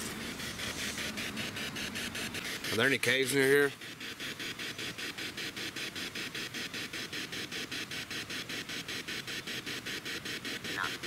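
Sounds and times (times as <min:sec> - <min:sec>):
pulsing radio static hiss: 0:00.0 - 0:11.0.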